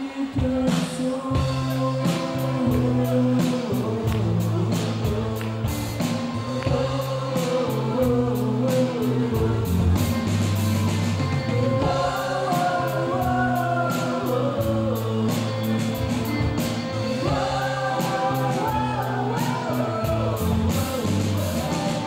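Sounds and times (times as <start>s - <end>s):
drums with cymbal hits: 0.0s - 22.0s
person singing: 0.0s - 22.0s
bass guitar low notes: 1.4s - 22.0s.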